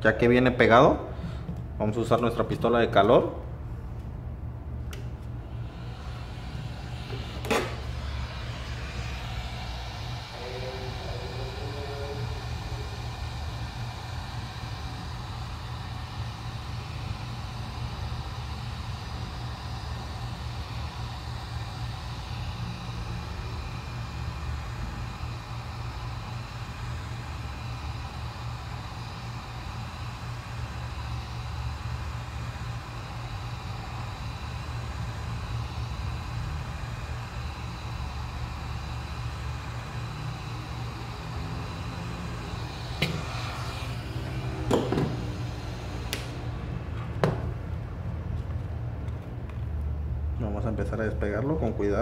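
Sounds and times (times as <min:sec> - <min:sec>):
faint high whine: 0:04.9 - 0:47.8
heat gun blowing air: 0:04.9 - 0:47.8.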